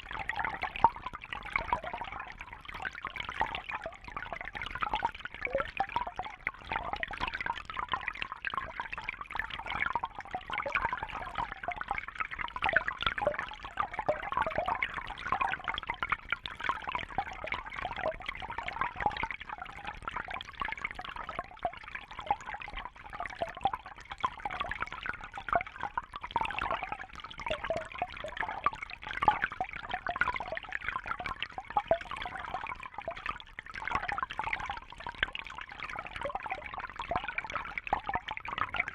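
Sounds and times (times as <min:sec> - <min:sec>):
water trickling and bubbling: 0:00.0 - 0:38.9.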